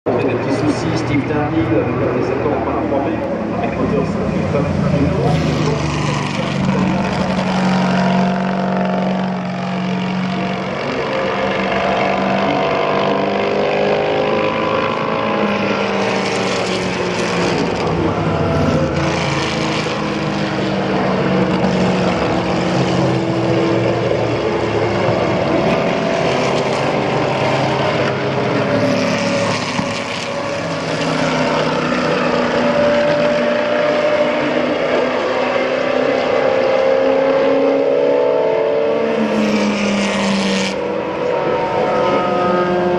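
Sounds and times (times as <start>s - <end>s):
racing car engines passing: 0.1s - 42.9s.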